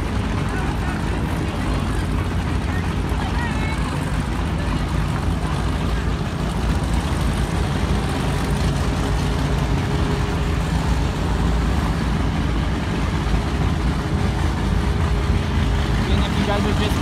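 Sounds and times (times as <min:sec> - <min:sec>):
powerboat engines rumbling: 0:00.0 - 0:17.0.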